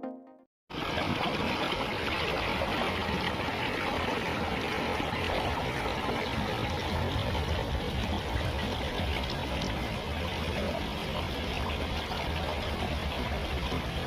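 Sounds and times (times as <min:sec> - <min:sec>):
water rushing along a ditch: 0:00.7 - 0:14.0.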